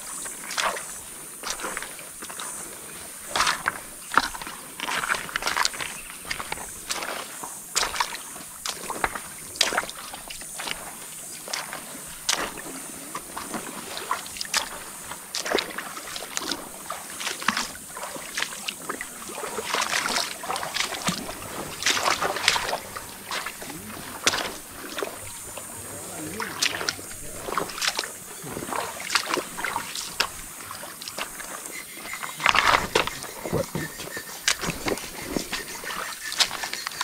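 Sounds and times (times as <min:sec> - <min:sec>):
hiss of moving water: 0:00.0 - 0:37.0
river water splashing: 0:00.0 - 0:37.0.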